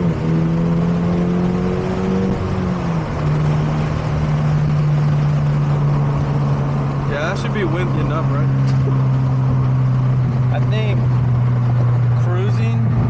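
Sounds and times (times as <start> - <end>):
car engine droning: 0.0 - 13.0
wind and road noise: 0.0 - 13.0.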